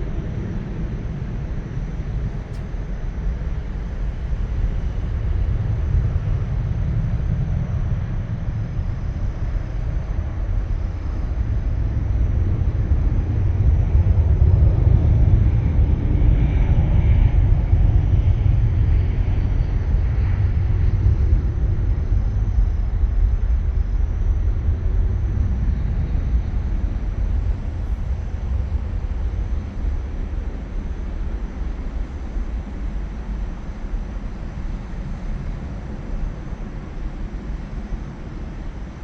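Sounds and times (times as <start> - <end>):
airplane engine drone: 0.0 - 39.0.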